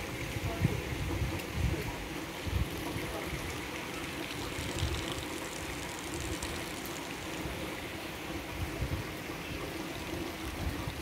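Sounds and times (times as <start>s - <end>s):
rain on pavement and cars: 1.2s - 11.0s
water trickling: 1.2s - 11.0s.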